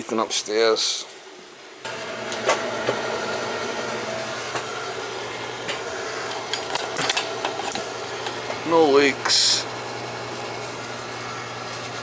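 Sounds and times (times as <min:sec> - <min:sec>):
water hum in pipes: 0:01.9 - 0:12.0.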